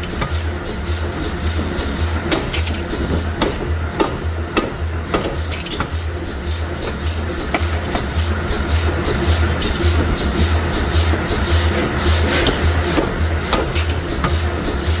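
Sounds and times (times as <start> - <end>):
low pulsing hum: 0.0 - 15.0
metallic clanks and knocks: 1.4 - 11.2, 11.8 - 15.0.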